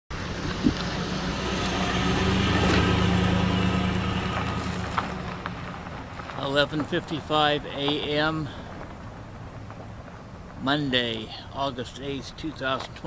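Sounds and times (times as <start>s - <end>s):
van driving on gravel: 0.1s - 13.0s.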